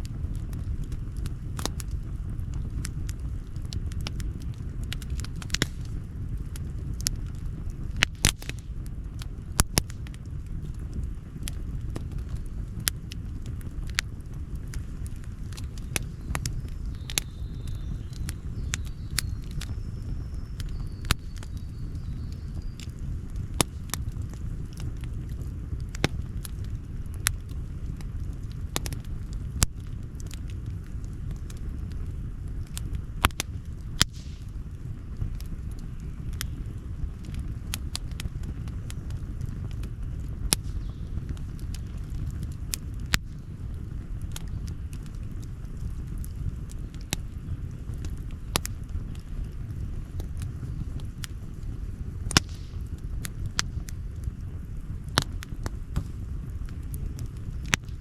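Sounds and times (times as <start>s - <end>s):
campfire crackling and popping: 0.0s - 58.0s
steady low rumble: 0.0s - 58.0s.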